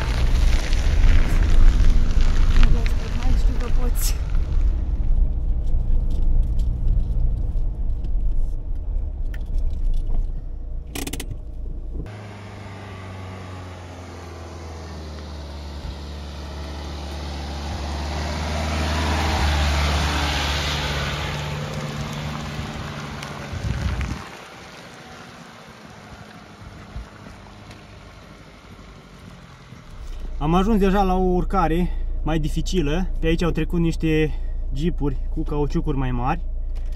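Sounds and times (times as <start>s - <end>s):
car engine driving: 0.0s - 36.9s
tyres on gravel and mud: 0.0s - 36.9s.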